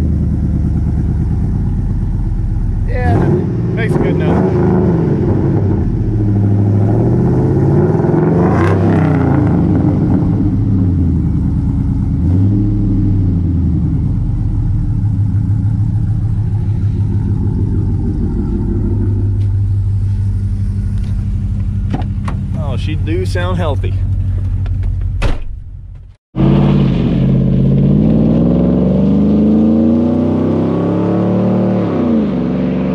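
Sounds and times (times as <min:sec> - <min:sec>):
car engine revving: 0:00.0 - 0:25.2, 0:26.4 - 0:32.9.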